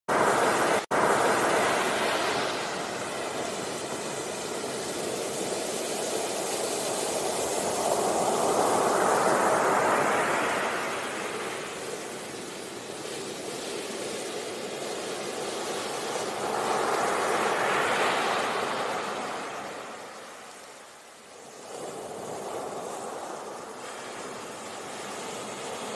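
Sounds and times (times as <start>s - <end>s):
waves breaking on beach: 0.1s - 25.9s.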